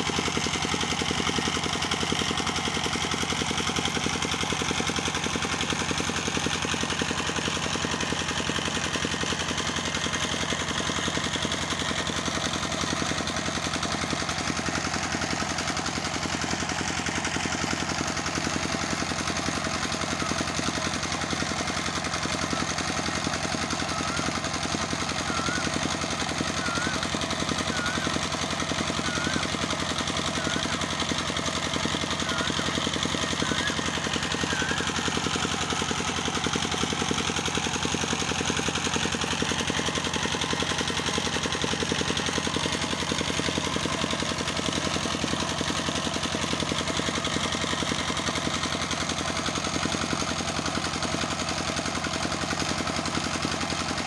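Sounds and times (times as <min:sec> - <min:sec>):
engine running with knocking beat: 0:00.0 - 0:54.0.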